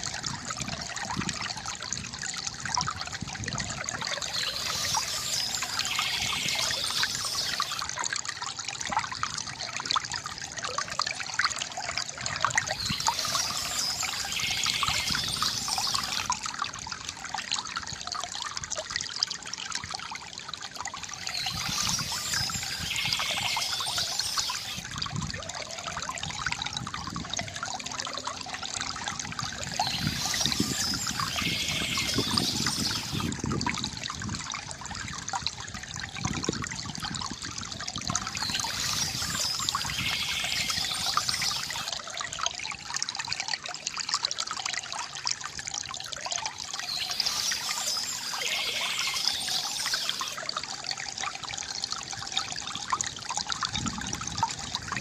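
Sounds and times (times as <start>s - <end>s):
higher rush of water: 0.0s - 9.6s, 11.6s - 18.5s, 20.6s - 55.0s
stream babbling over stones: 0.0s - 55.0s.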